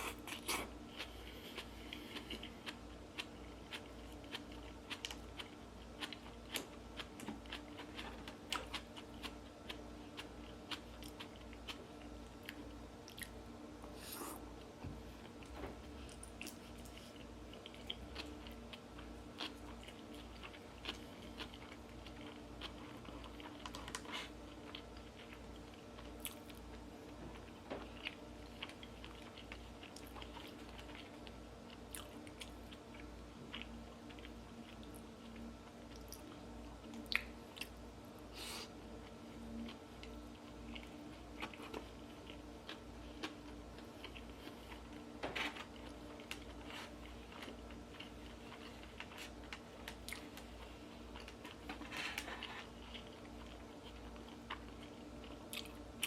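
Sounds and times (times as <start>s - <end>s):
person chewing food: 0.0s - 56.0s
steady low hum: 0.0s - 56.0s.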